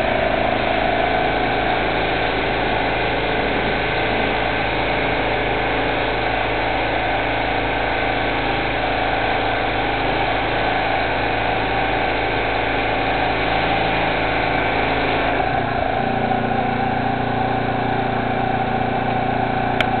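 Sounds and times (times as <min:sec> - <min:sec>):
pressure washer engine running: 0:00.0 - 0:20.0
water jet spraying on concrete: 0:00.0 - 0:20.0.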